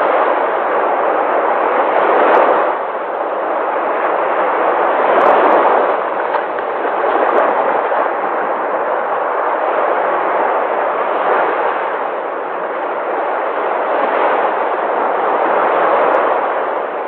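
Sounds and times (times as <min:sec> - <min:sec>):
sea waves breaking: 0:00.0 - 0:17.0.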